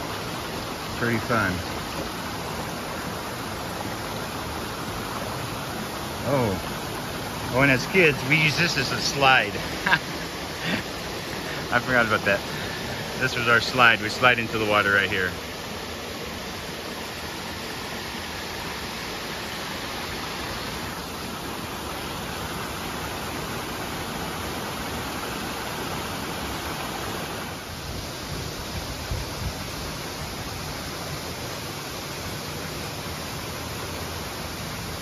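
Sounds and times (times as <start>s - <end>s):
creek rushing over rocks: 0.0s - 35.0s.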